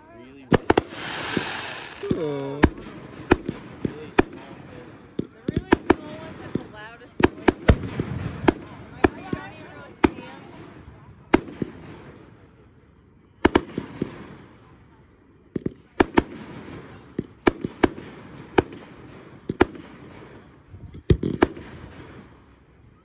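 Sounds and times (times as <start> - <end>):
fireworks bangs with rumbling echo: 0.4 - 12.8, 13.4 - 23.0.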